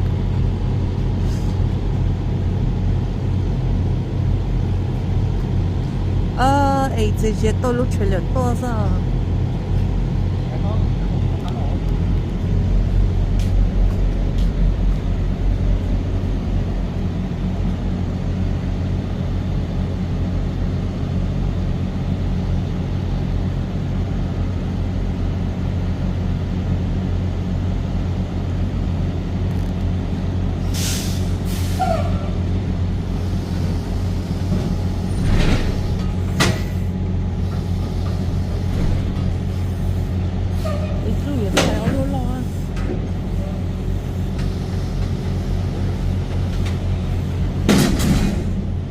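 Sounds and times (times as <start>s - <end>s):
truck engine droning: 0.0s - 48.9s.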